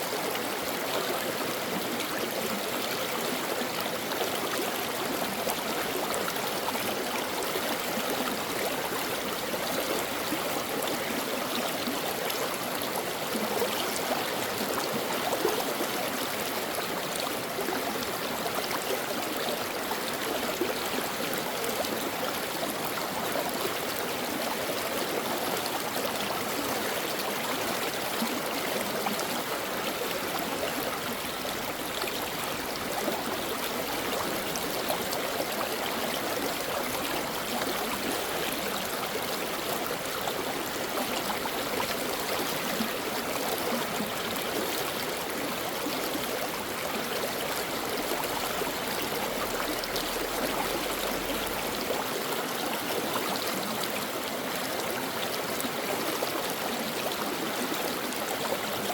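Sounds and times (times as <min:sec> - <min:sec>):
stream water over rocks: 0:00.0 - 0:58.9.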